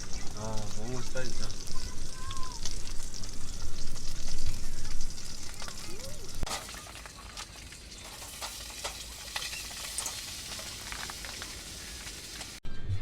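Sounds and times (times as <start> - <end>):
food sizzling in a pot: 0.0 - 12.6.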